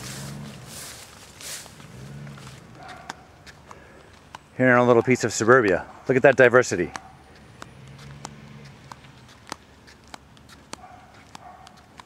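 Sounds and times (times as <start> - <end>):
footsteps clicking: 0.0 - 12.0.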